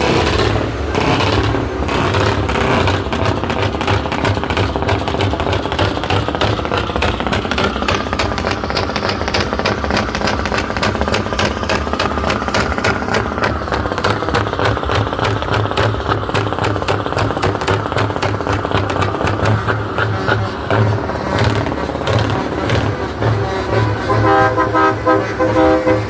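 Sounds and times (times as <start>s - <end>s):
truck engine pulsing: 0.0s - 26.0s.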